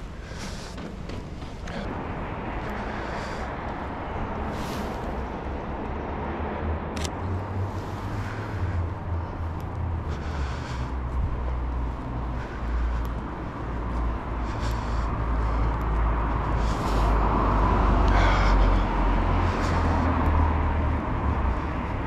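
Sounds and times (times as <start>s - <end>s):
road traffic rumble: 0.0s - 22.0s
vehicle passing: 0.0s - 22.0s.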